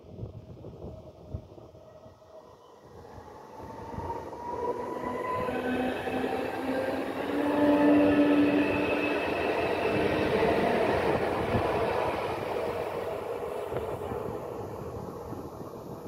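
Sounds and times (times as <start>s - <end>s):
electric train whine: 0.1s - 16.0s.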